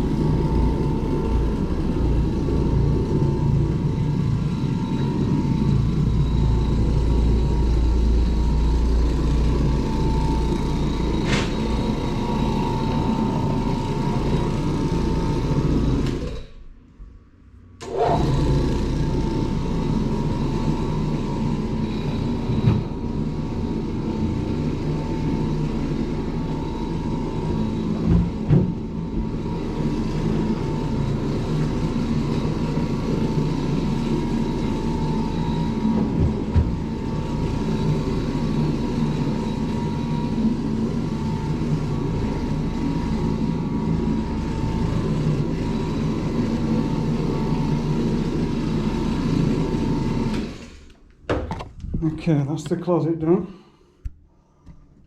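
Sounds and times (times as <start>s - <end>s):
carpet cleaning machine motor: 0.0s - 16.9s, 17.8s - 51.7s.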